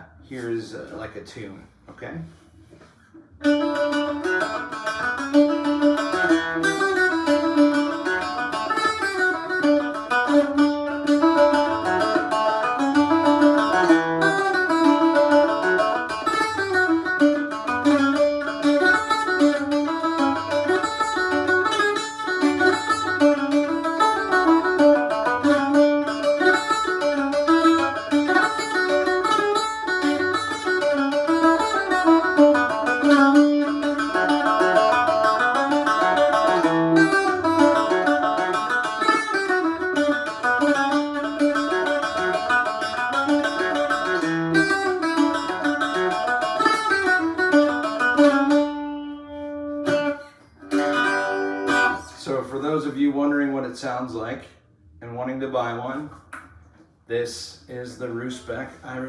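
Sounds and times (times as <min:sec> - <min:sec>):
bouzouki playing lively tune: 0:03.4 - 0:52.8.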